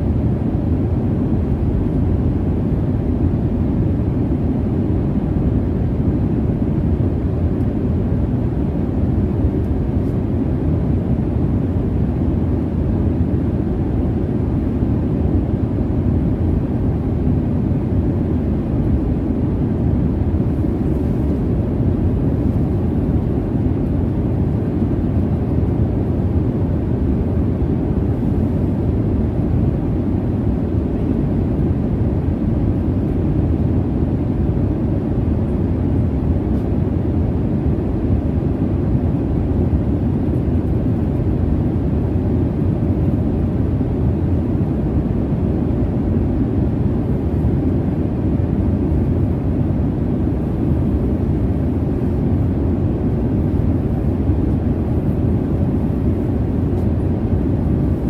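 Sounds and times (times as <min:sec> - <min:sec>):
jet airliner cabin rumble: 0:00.0 - 0:58.0.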